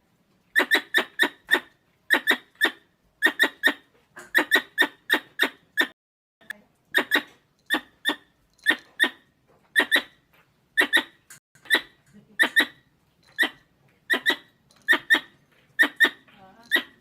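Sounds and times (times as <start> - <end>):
squirrel chirping: 0.5 - 5.9, 6.9 - 10.2, 10.8 - 17.0.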